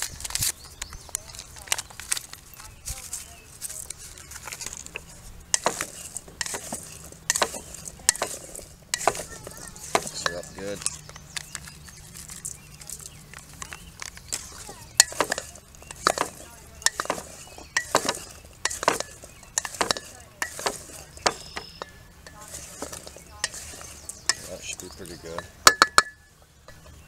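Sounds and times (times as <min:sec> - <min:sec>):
spoon scraping metal bowl: 0:03.8 - 0:26.1.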